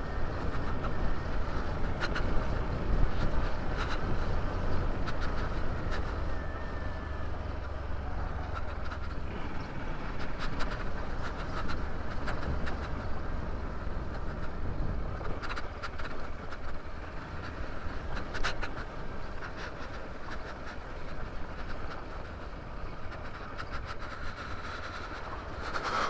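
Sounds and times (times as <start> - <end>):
motorcycle engine rumble: 0.0 - 26.0.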